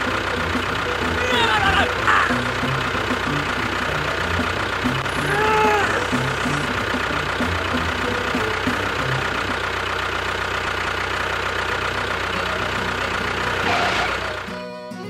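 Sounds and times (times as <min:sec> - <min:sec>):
motor running: 0:00.0 - 0:14.6.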